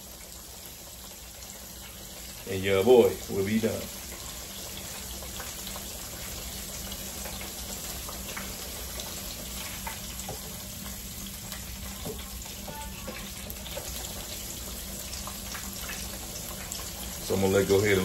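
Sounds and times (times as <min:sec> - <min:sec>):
oil bubbling in a fryer: 0:00.0 - 0:18.0.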